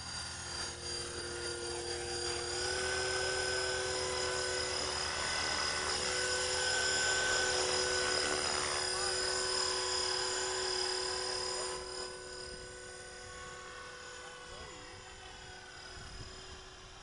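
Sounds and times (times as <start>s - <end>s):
helicopter motor and rotor whine: 0.0s - 17.0s.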